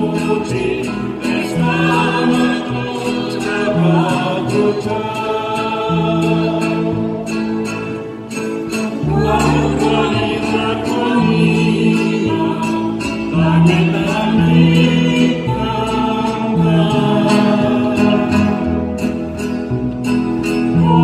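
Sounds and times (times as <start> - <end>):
voices singing together: 0.0 - 19.2, 20.6 - 21.0
strummed guitars: 0.0 - 21.0.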